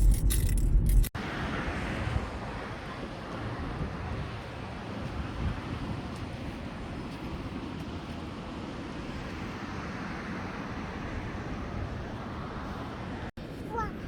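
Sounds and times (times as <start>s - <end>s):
wind rumbling on microphone: 0.0s - 14.0s
ocean surf: 1.2s - 14.0s.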